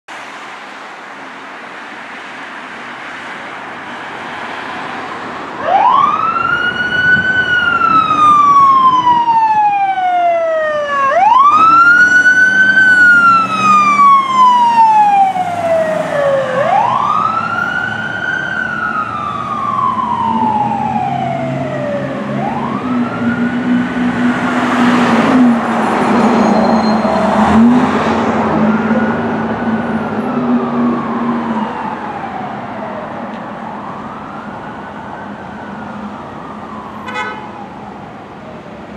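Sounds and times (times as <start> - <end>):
traffic noise: 0.1 - 38.9
siren wailing: 5.6 - 38.4.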